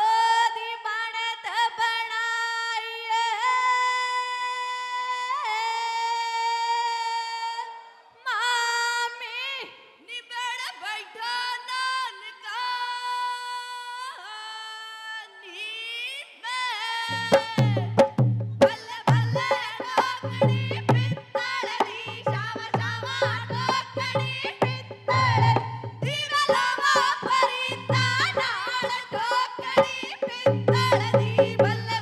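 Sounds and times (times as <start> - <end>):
woman singing unaccompanied: 0.0 - 32.0.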